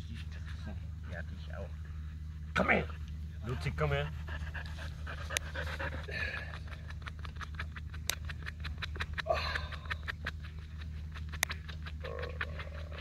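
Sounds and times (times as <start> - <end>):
dog panting: 2.4 - 13.0.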